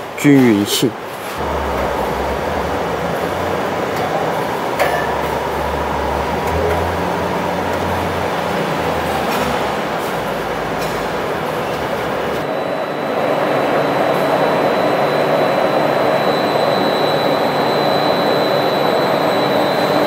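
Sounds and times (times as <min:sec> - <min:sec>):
extrusion line rumble and hum: 0:01.3 - 0:20.0.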